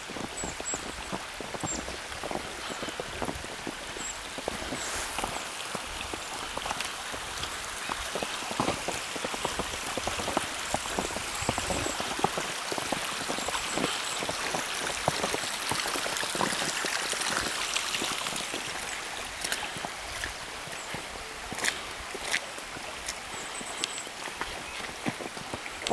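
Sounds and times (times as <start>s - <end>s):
snow pattering ticks: 0.1s - 25.9s.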